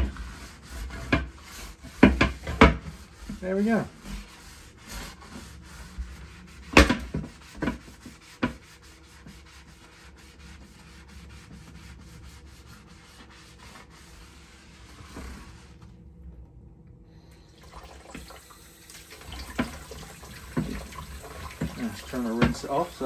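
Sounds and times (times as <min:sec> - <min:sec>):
brush scrubbing grill plate: 0:00.0 - 0:15.8, 0:19.3 - 0:23.0.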